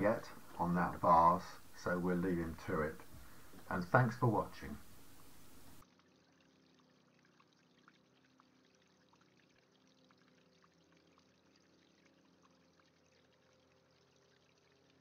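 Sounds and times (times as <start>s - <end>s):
faint water pouring: 0.0s - 15.0s.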